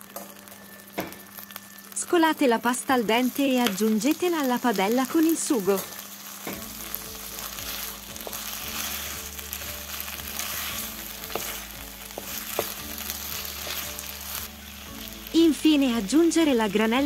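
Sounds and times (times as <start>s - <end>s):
pasta sizzling in a pan: 0.0s - 17.0s.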